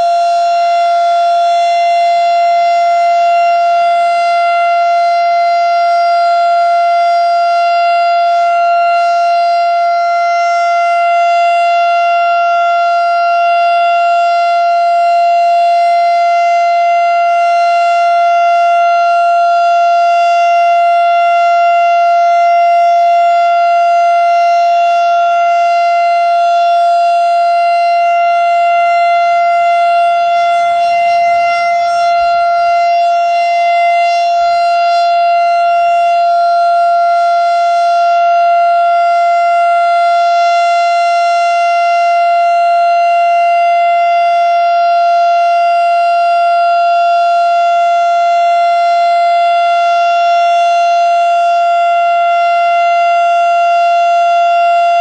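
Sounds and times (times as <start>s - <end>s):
warning siren steady tone: 0.0s - 55.0s.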